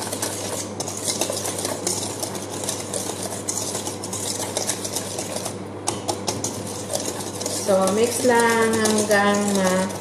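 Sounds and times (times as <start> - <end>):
metal utensil scraping steel bowl: 0.0 - 5.6, 6.3 - 10.0.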